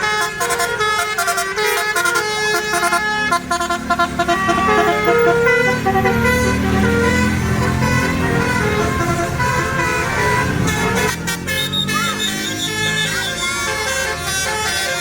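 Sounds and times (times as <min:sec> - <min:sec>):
multi-trumpet musical horn tune: 0:00.0 - 0:12.2.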